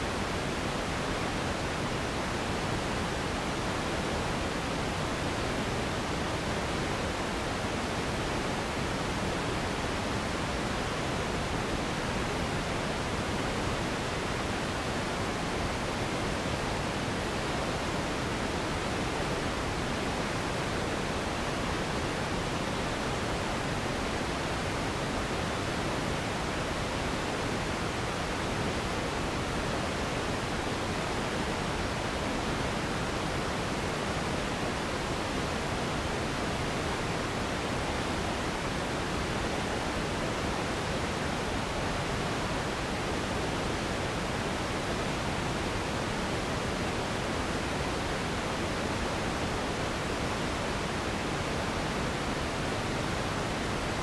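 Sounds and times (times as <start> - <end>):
steady hiss noise: 0.0 - 54.0.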